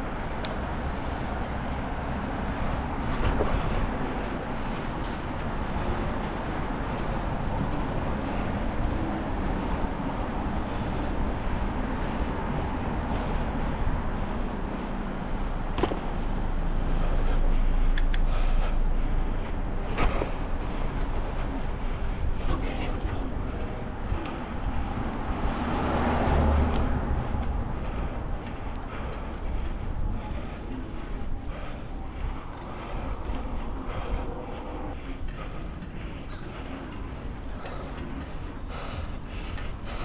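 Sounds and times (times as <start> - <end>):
car road rumble: 0.0 - 40.0.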